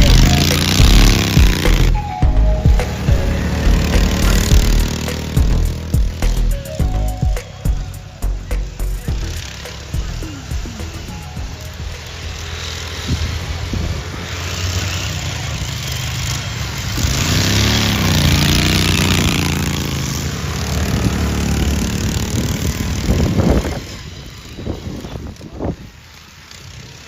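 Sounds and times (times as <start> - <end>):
lawnmower engines racing: 0.0 - 27.0
mower passing close: 0.0 - 27.0.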